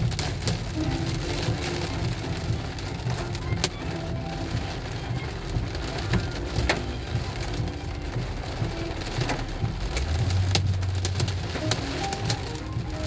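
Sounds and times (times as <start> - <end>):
low rumble of moving car: 0.0 - 13.0
rain on car roof: 0.0 - 13.0.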